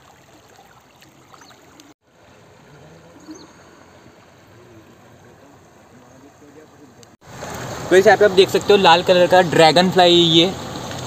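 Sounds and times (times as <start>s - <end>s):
creek water running over stones: 0.0s - 11.0s.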